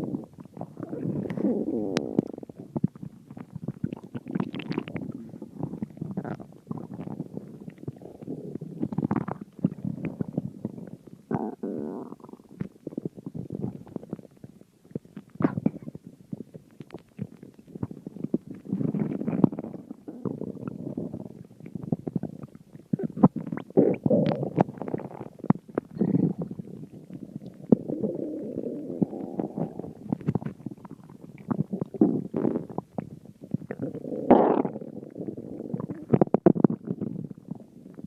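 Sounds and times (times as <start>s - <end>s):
stomach growling: 0.0s - 38.0s.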